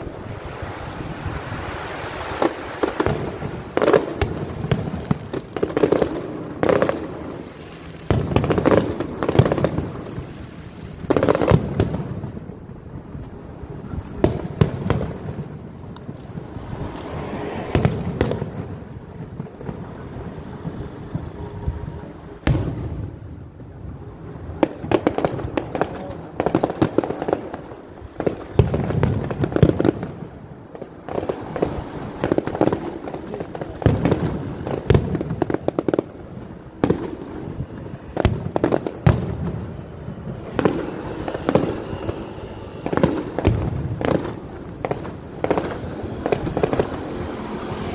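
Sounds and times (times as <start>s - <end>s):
fireworks bangs and crackles: 0.0s - 47.9s
fireworks rumble: 0.0s - 47.9s.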